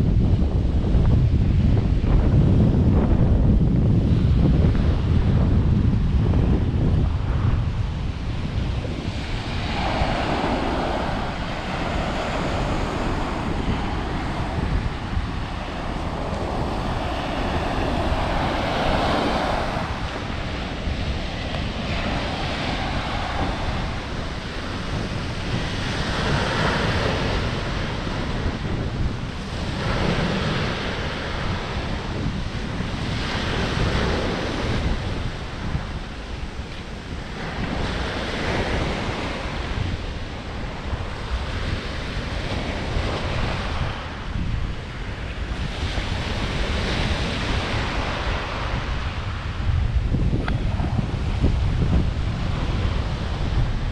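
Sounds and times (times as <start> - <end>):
sea waves breaking on shore: 0.0 - 53.9
wind buffeting microphone: 0.0 - 53.9.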